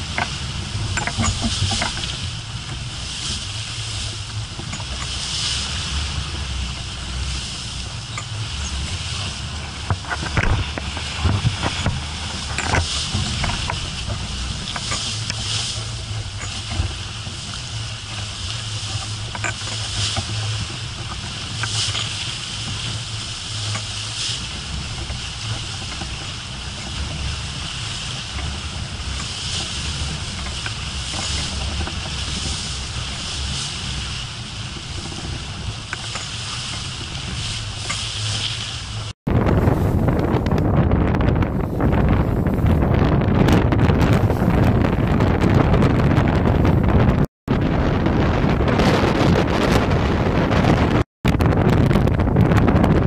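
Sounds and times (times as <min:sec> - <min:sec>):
water rushing along hull: 0:00.0 - 0:53.0
wind buffeting microphone: 0:00.0 - 0:53.0.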